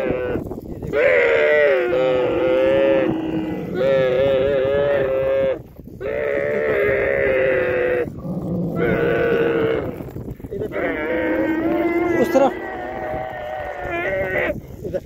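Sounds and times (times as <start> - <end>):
camel calf bawling: 0.0 - 15.0.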